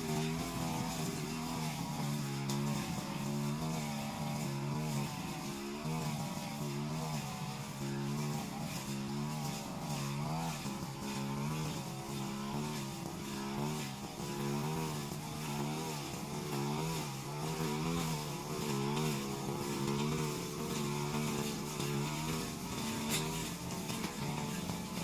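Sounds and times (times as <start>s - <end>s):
brush cutter engine running: 0.0s - 25.0s.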